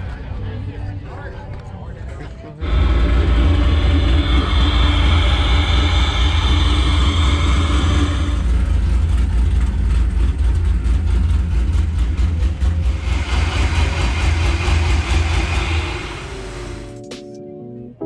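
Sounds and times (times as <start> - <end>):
car engine running loudly: 0.0 - 17.0.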